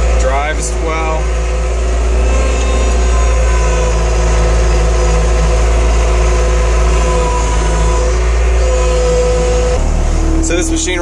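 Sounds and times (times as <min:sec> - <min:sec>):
diesel engine droning: 0:00.0 - 0:11.0
thin steady whine: 0:00.0 - 0:11.0.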